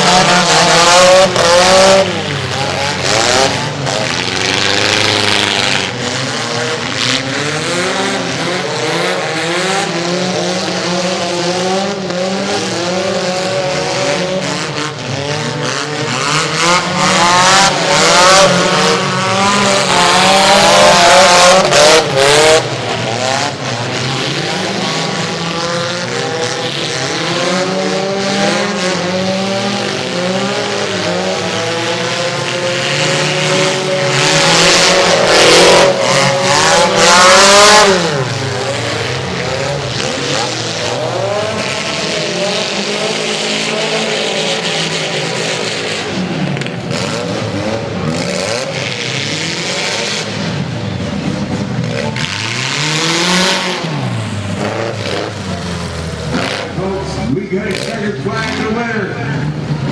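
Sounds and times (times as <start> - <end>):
small car engines racing: 0.0 - 59.9.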